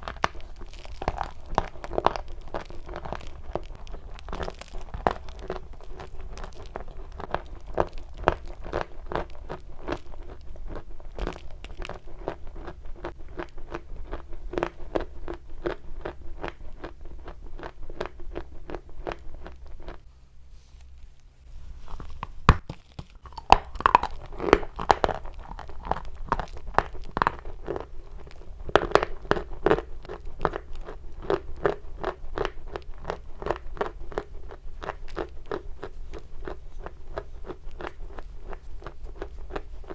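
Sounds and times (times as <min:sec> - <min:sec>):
chalk being chewed: 0:00.0 - 0:39.9.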